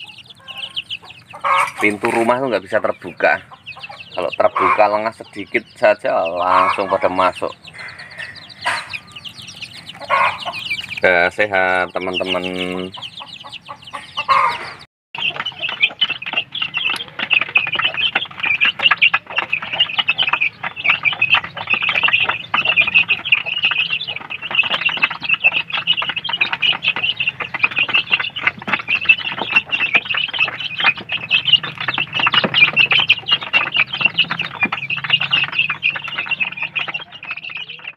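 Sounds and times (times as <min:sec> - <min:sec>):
chicks cheeping: 0:00.0 - 0:37.9.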